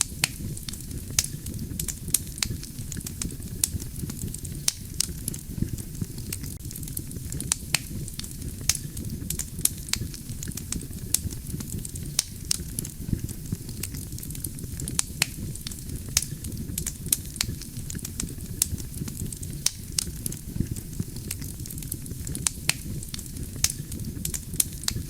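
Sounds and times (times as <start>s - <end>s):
low rumble of flames: 0.0s - 25.0s
wood crackling and popping: 0.0s - 25.0s.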